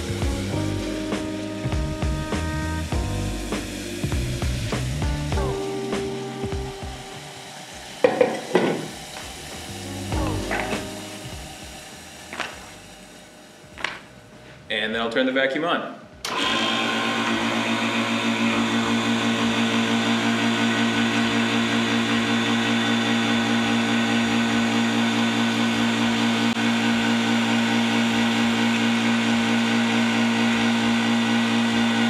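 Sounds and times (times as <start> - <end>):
vacuum pump humming: 0.0 - 14.5, 16.2 - 32.0.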